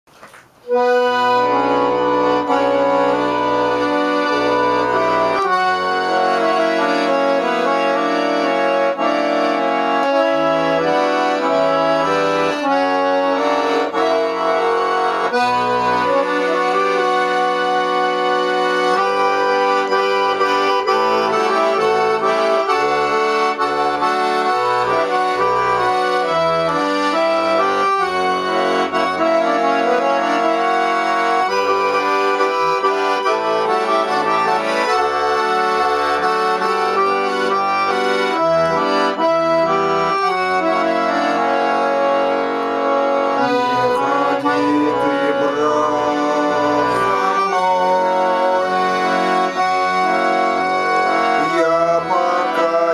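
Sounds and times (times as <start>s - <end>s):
accordion folk tune: 0.1s - 52.9s.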